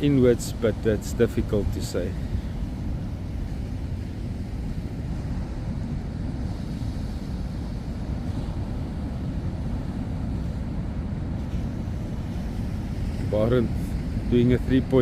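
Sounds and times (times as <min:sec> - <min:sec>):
heavy surf roaring: 0:00.0 - 0:15.0
wind buffeting microphone: 0:00.0 - 0:15.0.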